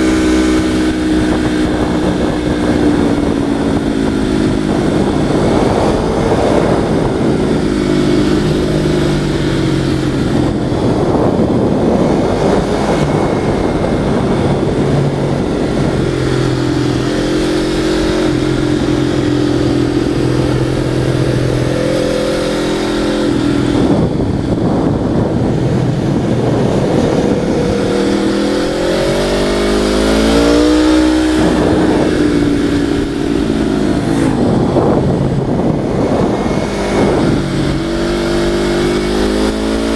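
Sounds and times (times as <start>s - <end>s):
vehicle engine running: 0.0s - 39.9s
wind rush on microphone: 0.0s - 39.9s.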